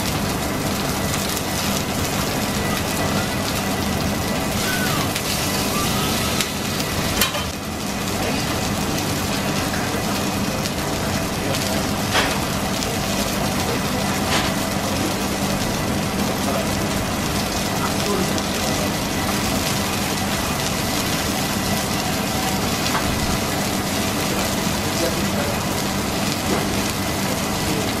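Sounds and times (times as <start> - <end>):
meat sizzling on a griddle: 0.0 - 28.0.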